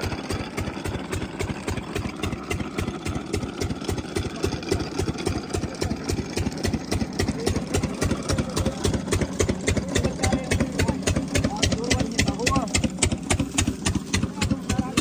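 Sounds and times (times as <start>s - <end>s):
diesel engine running steadily: 0.0s - 15.0s.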